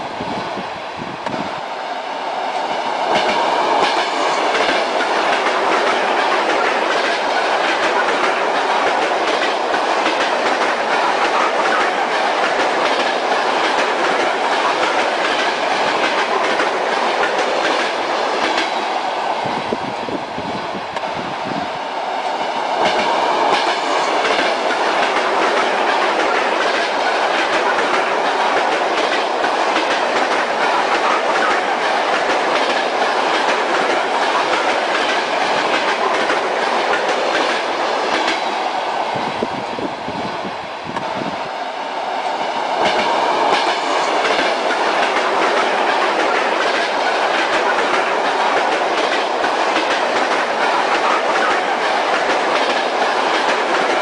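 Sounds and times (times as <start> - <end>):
train wheels clickety-clack: 2.4 - 40.3, 40.9 - 54.0.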